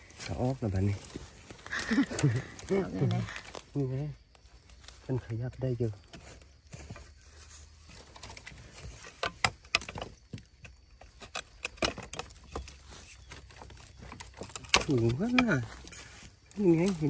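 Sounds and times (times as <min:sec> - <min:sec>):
dry bamboo rustling and scraping: 0:00.0 - 0:17.0.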